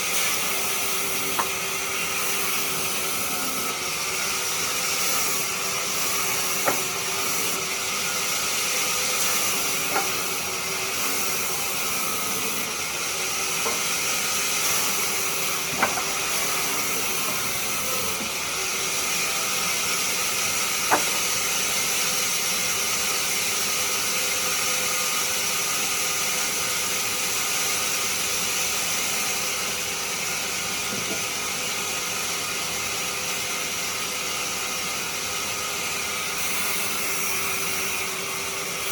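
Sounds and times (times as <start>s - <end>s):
lathe tool cutting wood hiss: 0.0s - 38.9s.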